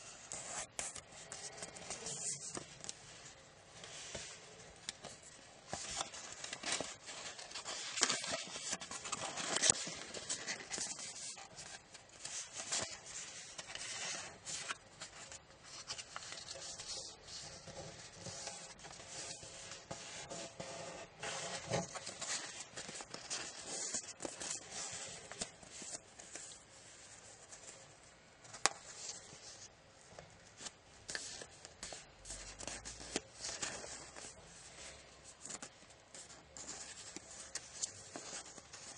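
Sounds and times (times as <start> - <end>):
paper rustling and crinkling: 0.0 - 38.9.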